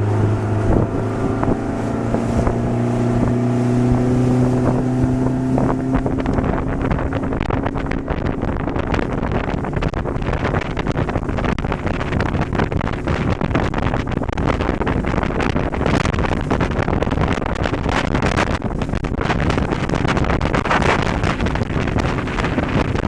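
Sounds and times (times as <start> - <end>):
boat motor running: 0.0 - 23.0
wind buffeting microphone: 0.0 - 23.0.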